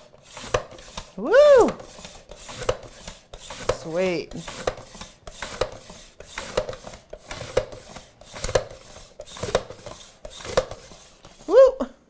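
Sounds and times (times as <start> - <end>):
onion sliced on mandoline: 0.0 - 11.5.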